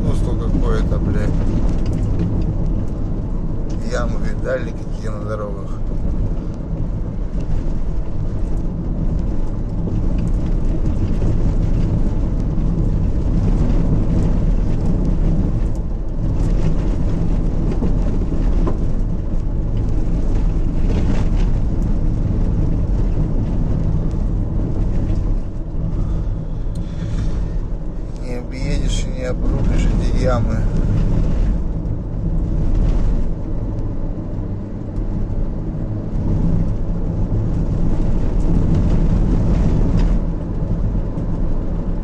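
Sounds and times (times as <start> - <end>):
car engine and tyre rumble: 0.0 - 42.0.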